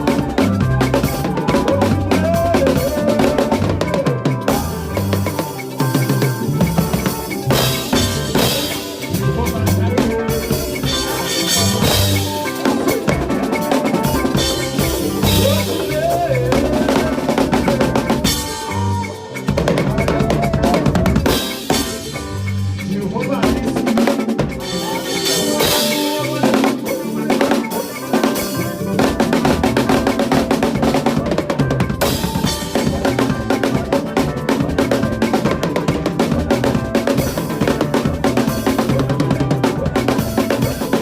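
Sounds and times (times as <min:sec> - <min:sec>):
drum kit playing: 0:00.0 - 0:41.0
praise music with bass line: 0:00.0 - 0:41.0.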